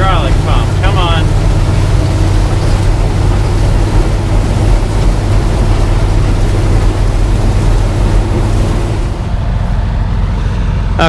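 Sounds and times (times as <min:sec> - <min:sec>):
combine engine and machinery drone: 0:00.0 - 0:11.0.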